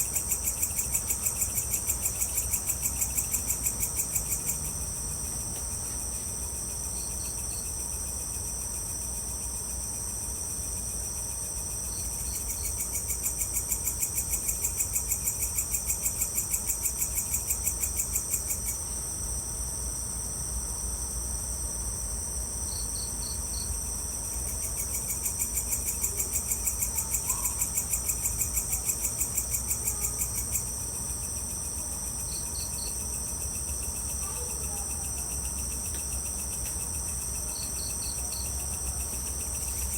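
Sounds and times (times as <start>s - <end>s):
crickets buzzing: 0.0s - 39.9s
loud pulsing insect trill: 0.0s - 39.9s.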